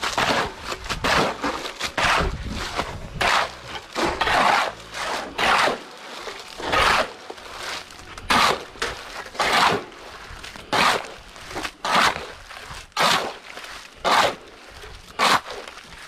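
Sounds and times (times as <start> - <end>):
shovel scraping wet concrete: 0.0 - 16.0.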